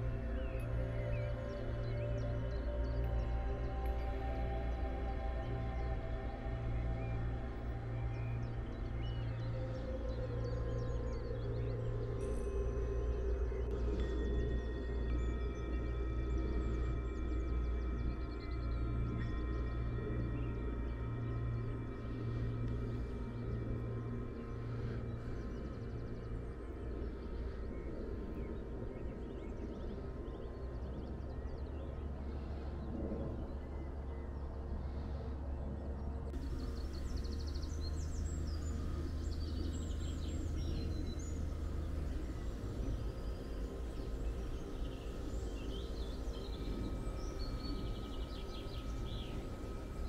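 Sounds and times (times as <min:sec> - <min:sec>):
songbirds chirping and warbling: 0:00.0 - 0:50.0
steady low rumble: 0:00.0 - 0:50.0.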